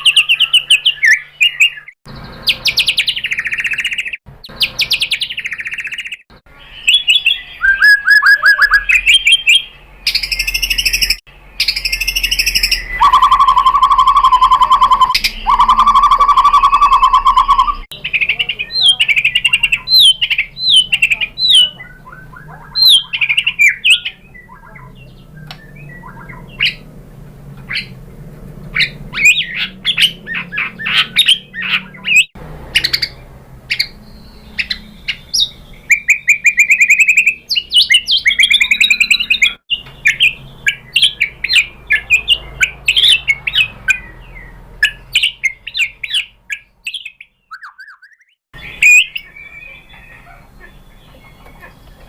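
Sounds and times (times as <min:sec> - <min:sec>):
bird singing whistles and trills: 0:00.0 - 0:26.9, 0:28.7 - 0:52.0.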